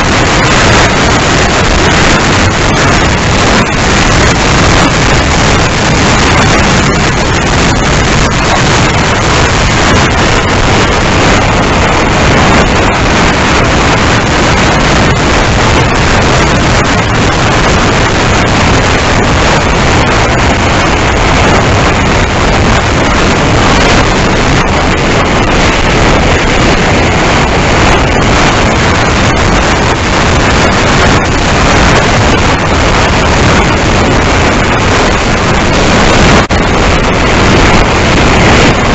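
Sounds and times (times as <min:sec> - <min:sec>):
scattered crackles: 0:00.0 - 0:38.9
wind buffeting microphone: 0:00.0 - 0:38.9.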